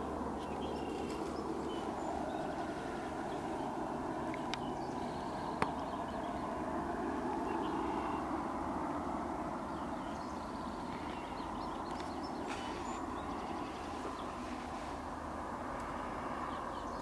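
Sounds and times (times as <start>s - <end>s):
distant traffic hum: 0.0s - 17.0s.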